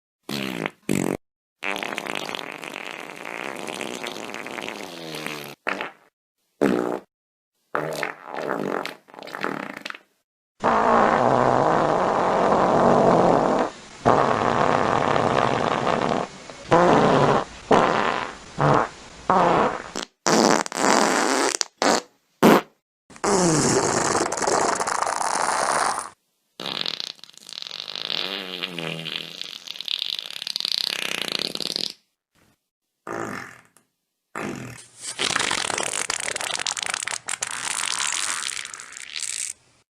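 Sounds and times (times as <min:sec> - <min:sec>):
fart sound effects: 0:00.3 - 0:07.1, 0:07.8 - 0:32.0, 0:33.1 - 0:33.8, 0:34.4 - 0:39.6.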